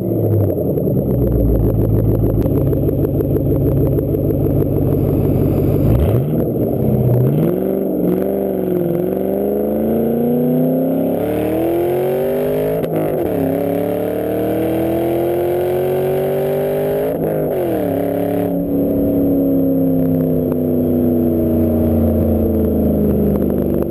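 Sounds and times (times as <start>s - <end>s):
car engine accelerating through gears: 0.0s - 23.9s.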